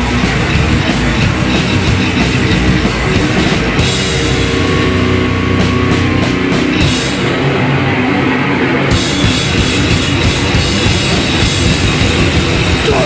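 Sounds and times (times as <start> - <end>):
heavy metal band playing: 0.0 - 13.0.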